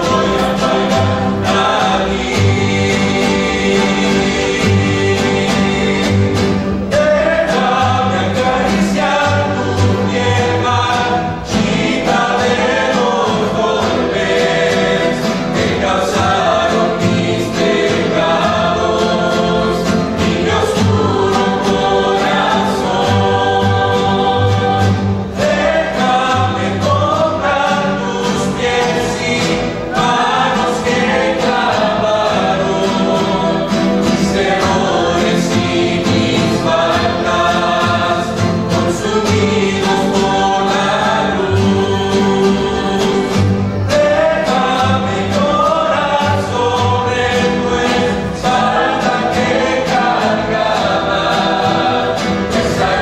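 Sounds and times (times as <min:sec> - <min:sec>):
mixed choir singing: 0:00.0 - 0:53.0
plucked upright bass: 0:00.0 - 0:53.0
strummed acoustic guitars: 0:00.0 - 0:53.0.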